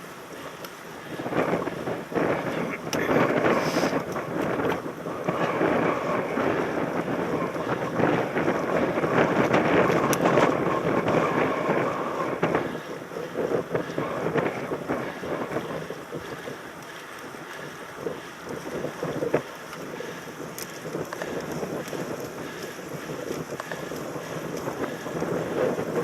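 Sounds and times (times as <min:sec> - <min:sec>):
bike rattles and knocks: 0:00.0 - 0:26.0
wind rushing over microphone: 0:00.0 - 0:26.0.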